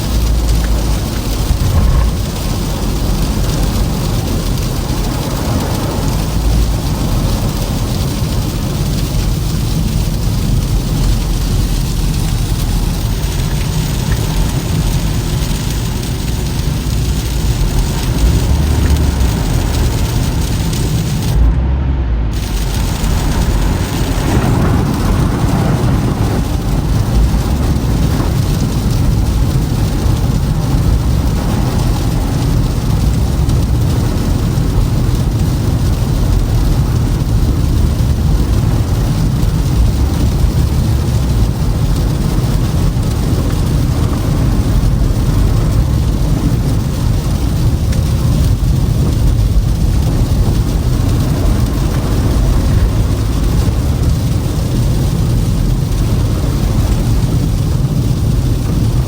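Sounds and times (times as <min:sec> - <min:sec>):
car engine: 0:00.0 - 0:59.0
tyre and road noise: 0:00.0 - 0:59.0.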